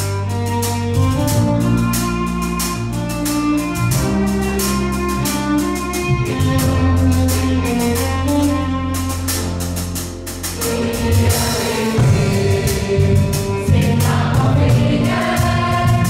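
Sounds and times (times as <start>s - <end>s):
drum kit beat on cymbals: 0.0s - 16.0s
low bass notes: 0.0s - 16.0s
violin melody: 0.0s - 16.0s.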